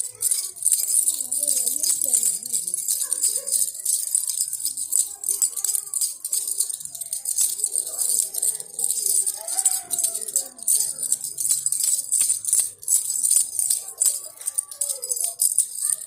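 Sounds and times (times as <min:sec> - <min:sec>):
baby rattle shaken: 0:00.0 - 0:16.0.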